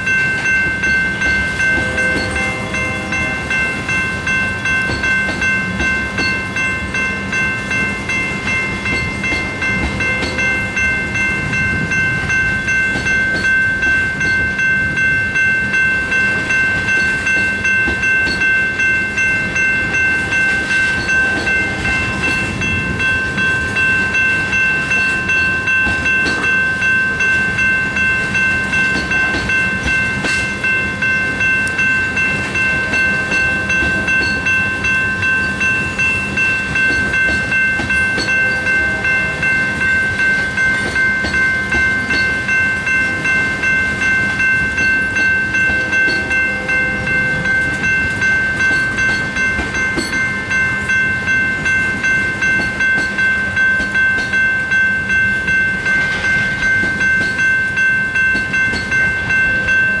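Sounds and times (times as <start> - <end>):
freight train rumbling and clattering: 0.0 - 60.0
railroad crossing bells ringing: 0.0 - 60.0.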